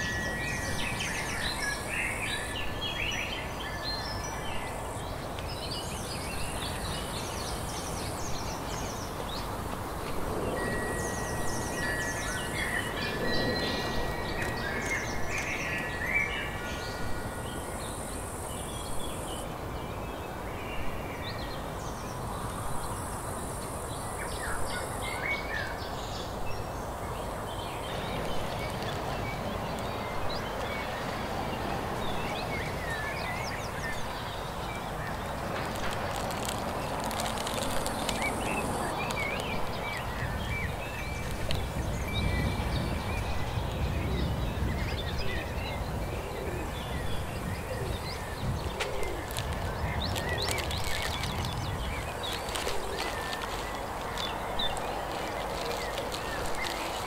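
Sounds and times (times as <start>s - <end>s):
outdoor background noise: 0.0s - 57.0s
songbirds chirping and trilling: 0.0s - 57.0s.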